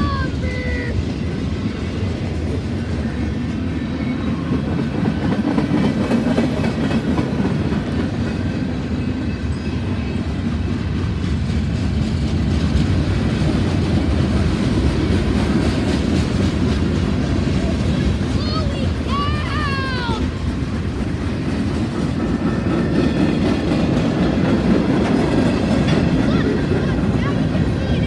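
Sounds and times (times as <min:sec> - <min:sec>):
rumble of rolling train cars: 0:00.0 - 0:28.0
wheels clacking over rail joints: 0:01.1 - 0:28.0.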